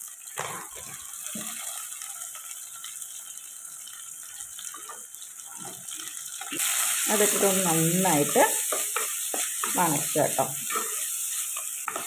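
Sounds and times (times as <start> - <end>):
hot oil sizzling in a pot: 0.0 - 12.0.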